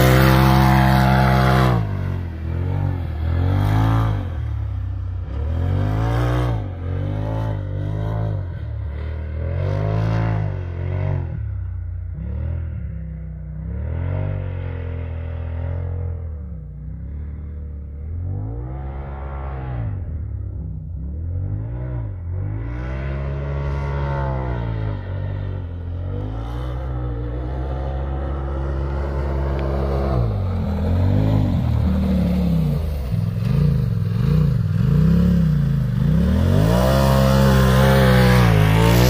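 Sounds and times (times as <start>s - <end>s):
utility vehicle engine revving: 0.0s - 13.0s, 13.6s - 39.0s.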